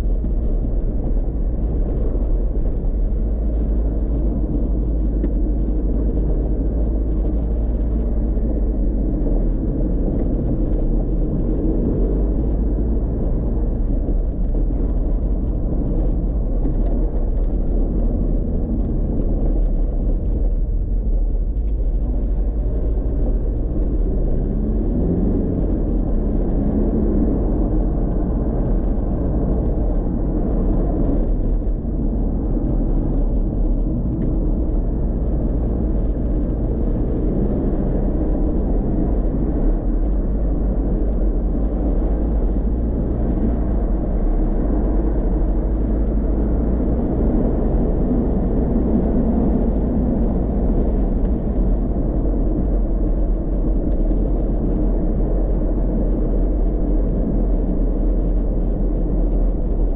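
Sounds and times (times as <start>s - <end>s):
road and tyre rumble: 0.0s - 59.9s.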